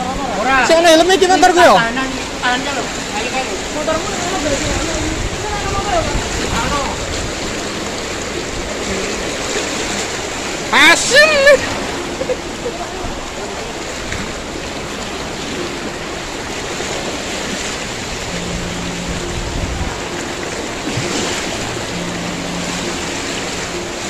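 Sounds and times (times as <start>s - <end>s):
floodwater rushing through street: 0.0s - 24.0s.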